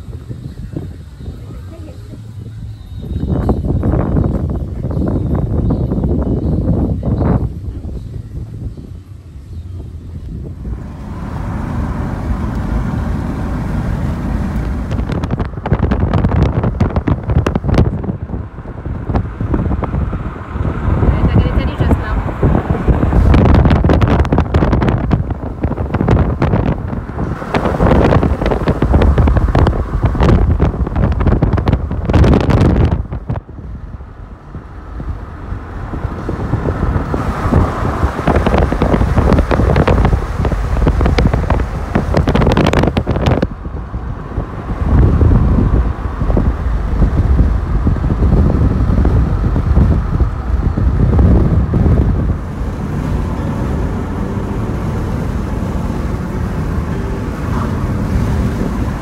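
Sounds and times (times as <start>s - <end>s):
low rumble of moving car: 0.0s - 59.0s
wind buffeting microphone: 0.0s - 59.0s.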